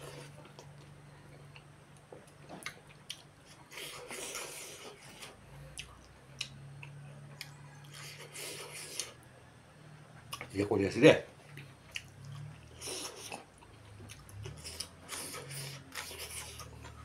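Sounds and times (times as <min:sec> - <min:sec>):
person chewing with wet smacks: 0:00.0 - 0:09.2, 0:10.2 - 0:10.5, 0:11.5 - 0:17.0.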